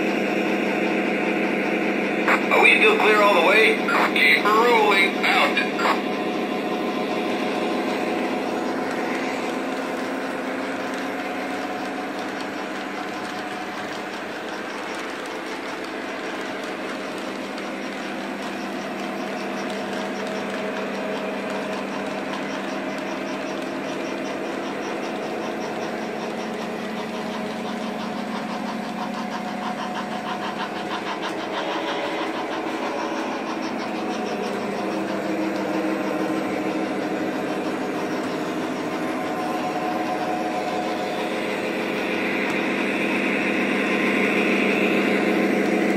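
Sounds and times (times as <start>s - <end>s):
model train diesel engine sound: 0.0s - 45.9s
model train wheels clattering: 2.6s - 45.9s.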